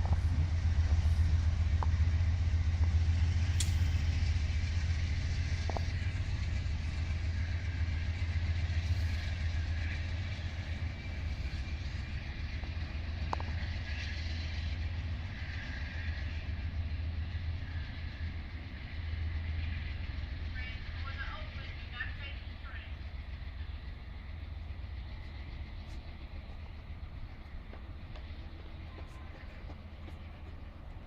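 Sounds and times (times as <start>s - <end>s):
diesel train rumble: 0.0s - 31.0s
rail noise hiss: 0.0s - 31.0s.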